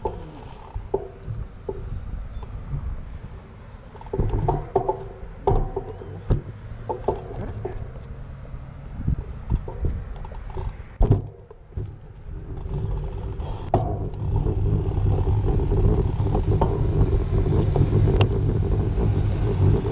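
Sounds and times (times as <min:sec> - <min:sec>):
bicycle tyres rolling on concrete: 0:00.0 - 0:19.9
wind rumbling on microphone: 0:00.0 - 0:19.9.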